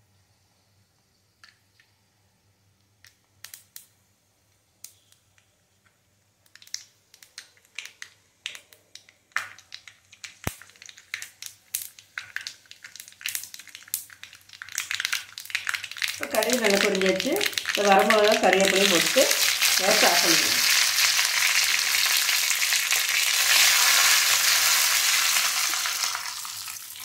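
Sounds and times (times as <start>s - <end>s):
mustard seeds popping in oil: 2.9s - 4.0s, 4.6s - 27.0s.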